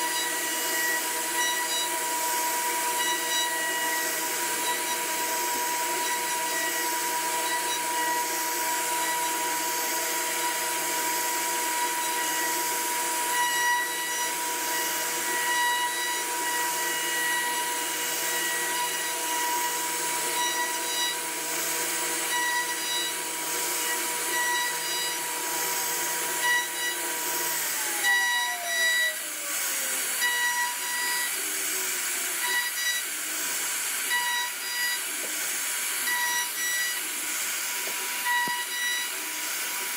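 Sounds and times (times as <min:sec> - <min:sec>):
cnc router spindle whine: 0:00.0 - 0:39.9
hiss of wood cutting: 0:00.0 - 0:39.9.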